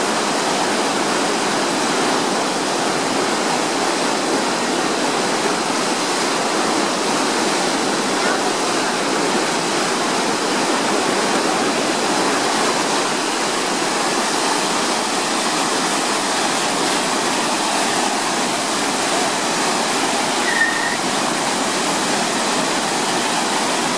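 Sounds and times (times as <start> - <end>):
floodwater gushing: 0.0 - 23.9.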